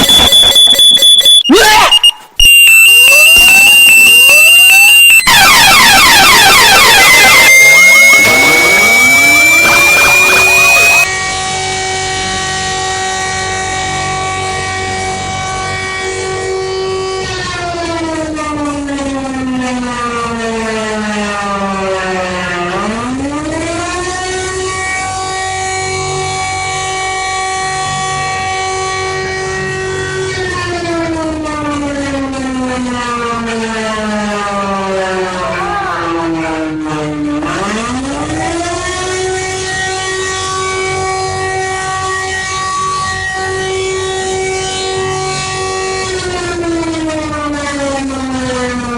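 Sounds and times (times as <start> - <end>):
civil defense siren: 2.4 - 48.9.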